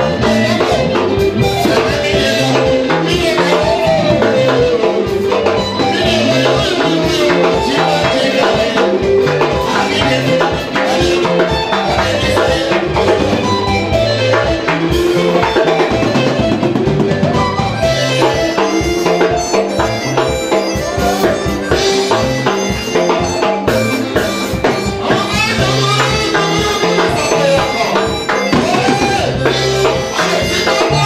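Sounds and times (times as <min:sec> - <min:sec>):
drum kit beat: 0:00.0 - 0:31.0
live band music: 0:00.0 - 0:31.0.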